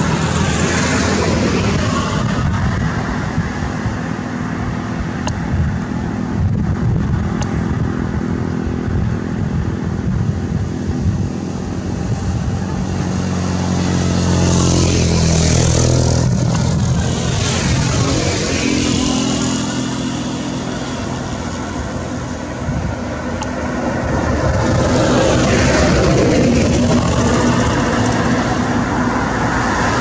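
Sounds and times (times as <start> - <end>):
truck engine humming: 0.0 - 30.0
vehicles passing with tyre noise: 0.0 - 30.0.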